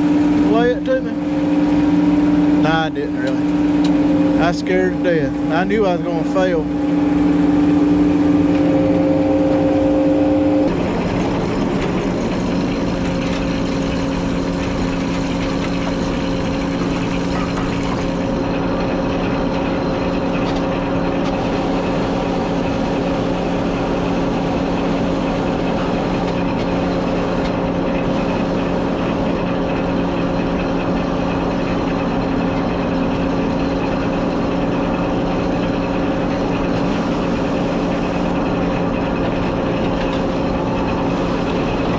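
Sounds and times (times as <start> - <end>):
engine running hum: 0.0 - 41.9.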